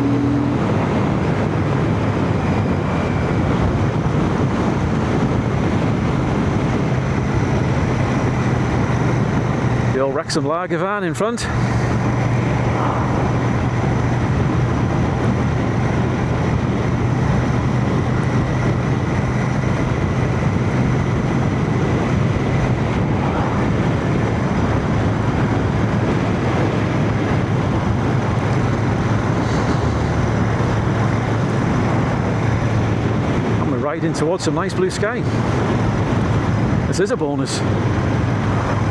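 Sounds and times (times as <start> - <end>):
motorcycle engine humming: 0.0 - 38.9
road noise: 0.0 - 38.9
wind noise: 0.0 - 38.9.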